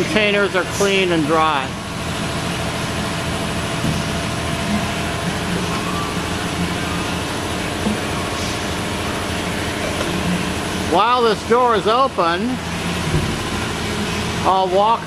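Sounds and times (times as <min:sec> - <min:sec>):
industrial washing machinery humming: 0:00.0 - 0:15.0.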